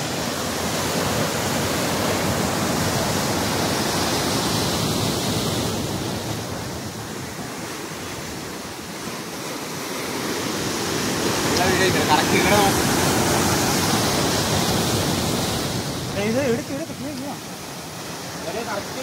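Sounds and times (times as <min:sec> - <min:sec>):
surf breaking over rocks: 0:00.0 - 0:19.0.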